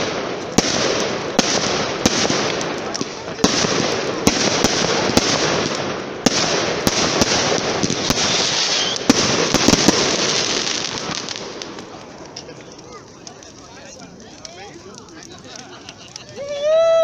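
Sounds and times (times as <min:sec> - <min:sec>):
fireworks bangs: 0:00.0 - 0:17.0
fireworks crackling hiss: 0:00.0 - 0:17.0.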